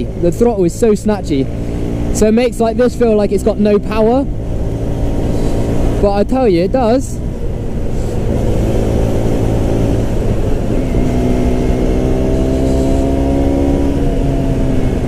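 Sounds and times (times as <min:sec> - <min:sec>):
motorcycle engine at speed: 0:00.0 - 0:15.0
wind rushing over microphone: 0:00.0 - 0:15.0.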